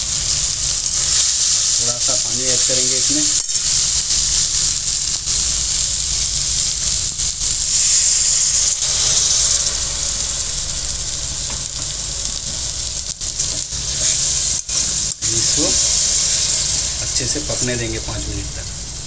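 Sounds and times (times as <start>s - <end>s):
curry sizzling in a pan: 0.0s - 19.0s
steam hissing: 0.0s - 19.0s.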